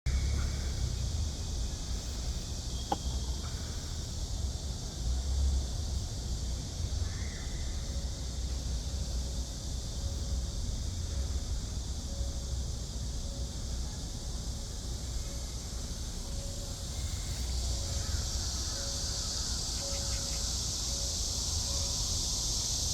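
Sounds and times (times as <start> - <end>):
cicadas droning: 0.1 - 22.9.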